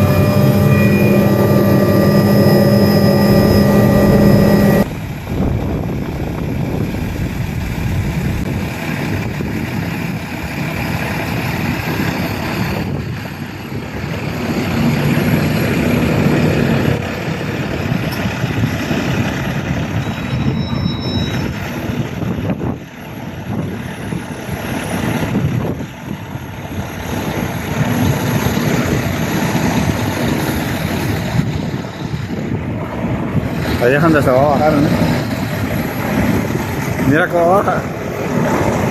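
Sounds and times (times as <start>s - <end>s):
helicopter rotor and engine: 0.0s - 38.9s
wind on microphone: 0.0s - 38.9s.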